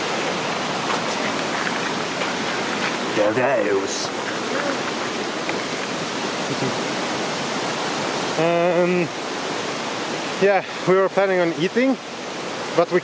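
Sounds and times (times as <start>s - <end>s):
rushing mountain water: 0.0s - 13.0s.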